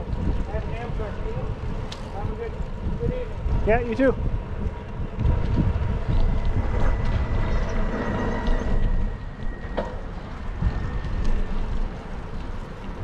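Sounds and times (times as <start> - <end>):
road traffic: 0.0 - 13.0
wind rumbling on microphone: 0.0 - 13.0.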